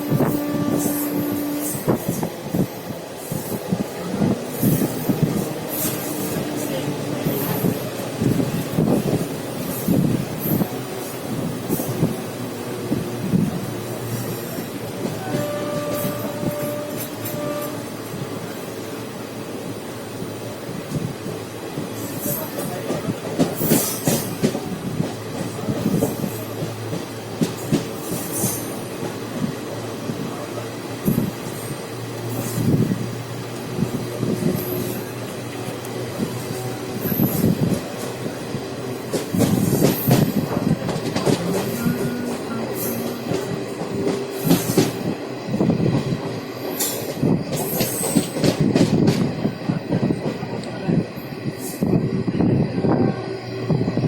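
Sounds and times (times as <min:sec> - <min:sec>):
train wheels clacking: 0:00.0 - 0:18.6, 0:20.8 - 0:50.8
train rumble: 0:00.0 - 0:54.0.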